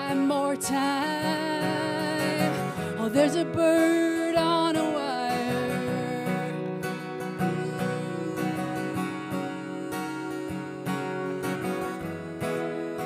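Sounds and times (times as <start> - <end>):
acoustic guitar strumming: 0.0 - 13.0
person singing: 0.0 - 13.0.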